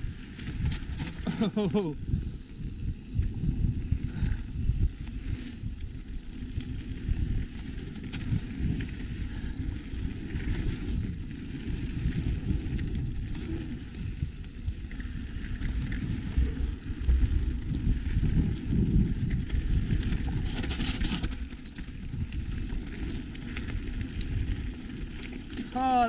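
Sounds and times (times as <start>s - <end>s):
wind on microphone: 0.0s - 25.1s
bike rattling over bumps: 0.0s - 26.0s
bike tyres rolling on dirt: 0.0s - 26.0s.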